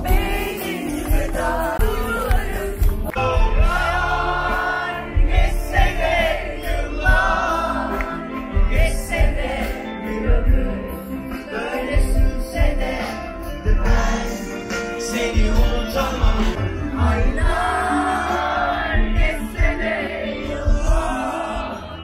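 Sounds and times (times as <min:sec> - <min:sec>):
crowd singing along: 0:00.0 - 0:22.0
live pop band: 0:00.0 - 0:22.0.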